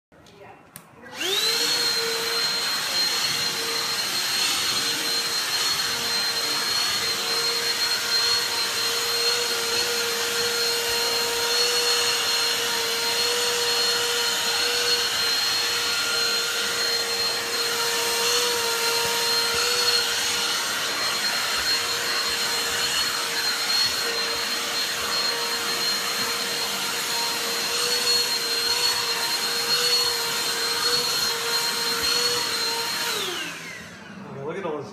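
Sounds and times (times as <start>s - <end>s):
vacuum cleaner running: 1.0s - 34.9s.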